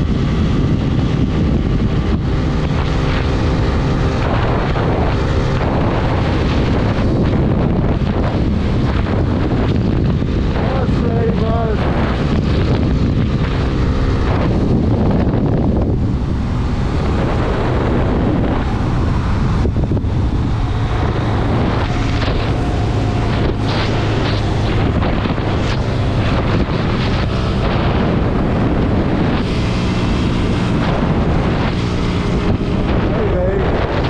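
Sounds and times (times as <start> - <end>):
motorcycle engine running: 0.0 - 34.0
wind rush on microphone: 0.0 - 34.0.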